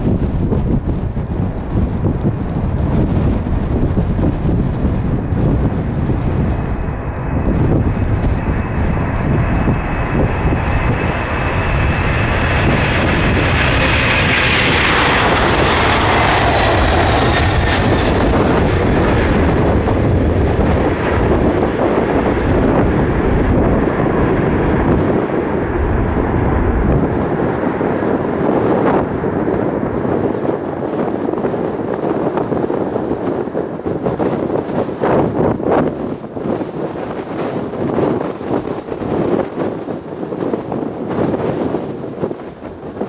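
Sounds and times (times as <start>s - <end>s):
high engine whine: 0.0s - 36.0s
jet engines roaring at takeoff: 0.0s - 43.0s.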